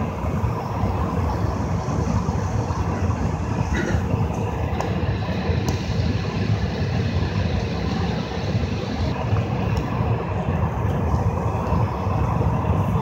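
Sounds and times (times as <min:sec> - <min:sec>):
aircraft cabin air hum: 0:00.0 - 0:13.0.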